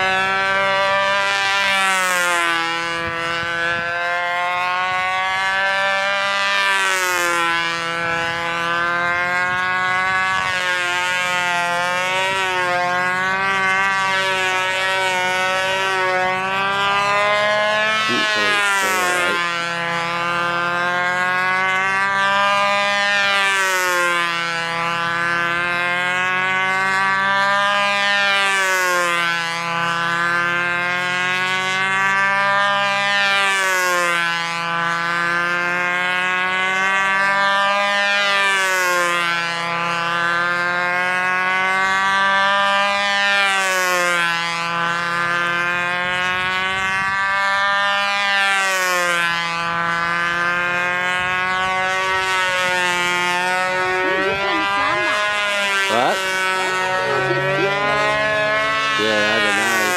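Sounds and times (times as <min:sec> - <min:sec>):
model plane engine: 0:00.0 - 0:59.9.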